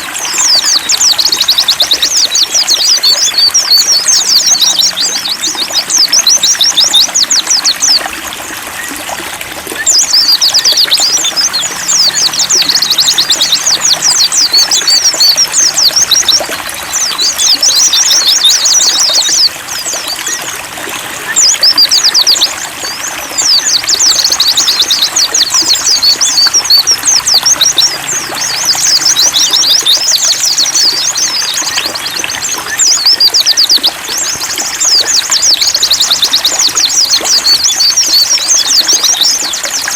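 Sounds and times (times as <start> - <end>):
birds singing high twittering phrases: 0.0 - 39.9
trickle of running water: 0.0 - 39.9.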